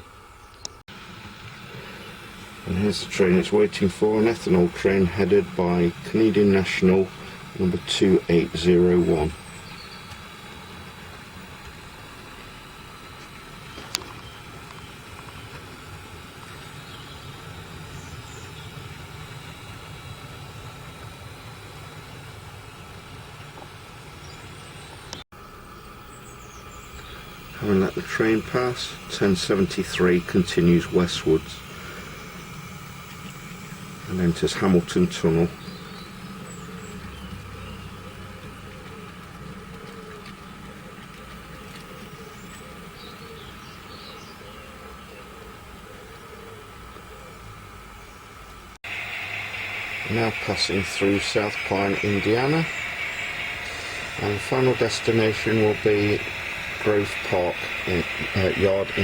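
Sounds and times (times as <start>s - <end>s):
model locomotive engine drone: 0.0s - 59.0s
thin steady whine: 0.0s - 59.0s
model train rolling: 1.0s - 44.2s, 48.4s - 59.0s.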